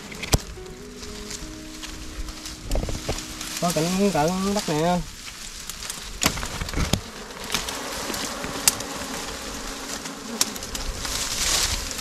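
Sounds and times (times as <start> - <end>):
bees buzzing: 0.0 - 12.0
twigs snapping and rustling: 0.0 - 12.0.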